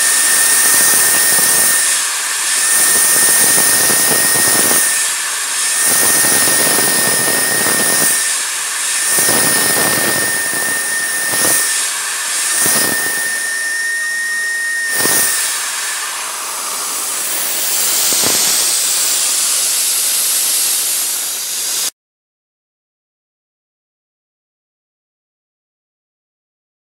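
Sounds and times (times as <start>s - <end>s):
air nozzle hissing: 0.0s - 21.9s
milling spindle whine: 0.0s - 21.9s.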